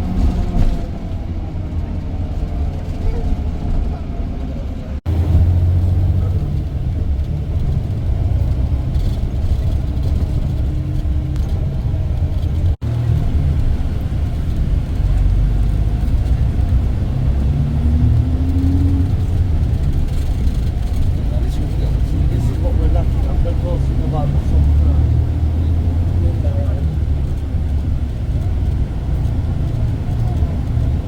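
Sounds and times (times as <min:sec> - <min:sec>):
coach engine rumble: 0:00.0 - 0:31.0
road noise: 0:00.0 - 0:31.0.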